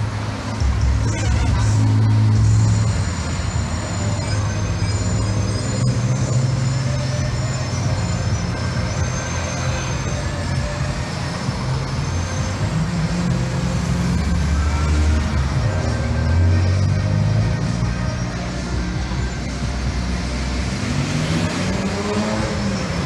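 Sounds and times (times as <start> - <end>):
cars and motorcycles driving past: 0.0 - 23.0.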